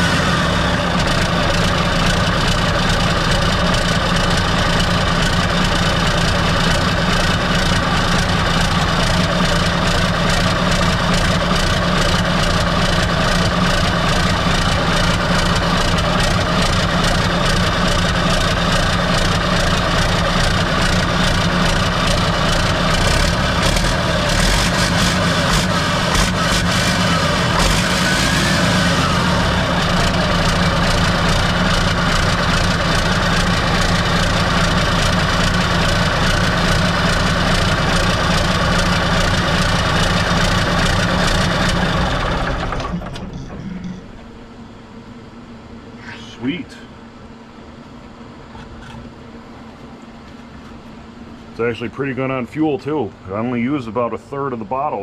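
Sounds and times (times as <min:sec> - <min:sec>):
diesel truck engine idling: 0:00.0 - 0:48.6.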